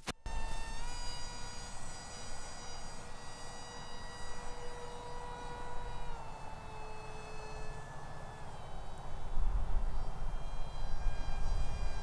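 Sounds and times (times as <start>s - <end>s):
model plane motor whining: 0.3s - 12.0s.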